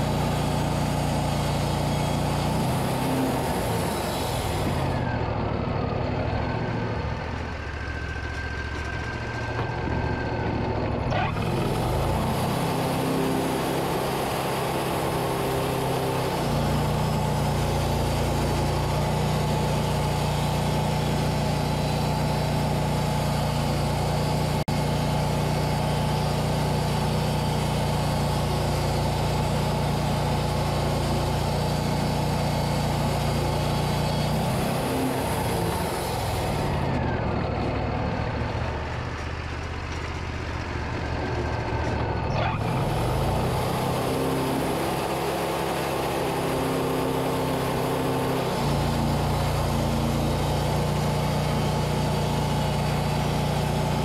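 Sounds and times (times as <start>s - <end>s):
band sawmill engine running: 0.0s - 54.0s.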